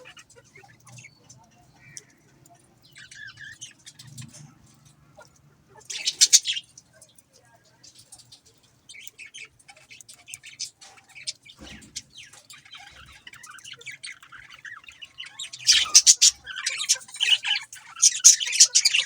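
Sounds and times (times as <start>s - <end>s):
budgerigars chirping: 0.0s - 6.8s, 7.8s - 19.0s.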